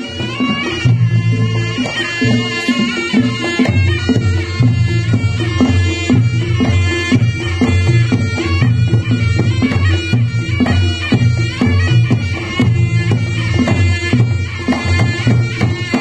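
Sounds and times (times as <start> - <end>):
hand drums beating: 0.0 - 16.0
shrill reedy shawm melody: 0.0 - 16.0.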